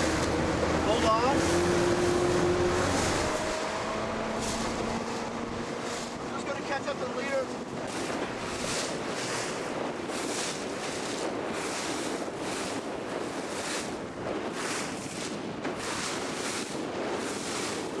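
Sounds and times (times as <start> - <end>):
water rushing and splashing: 0.0 - 18.0
wind buffeting microphone: 0.0 - 18.0.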